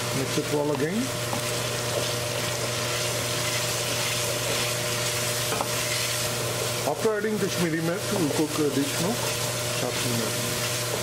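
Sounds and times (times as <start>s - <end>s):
sauce sizzling in a pot: 0.0s - 11.0s
wooden spoon stirring in a pot: 0.1s - 11.0s.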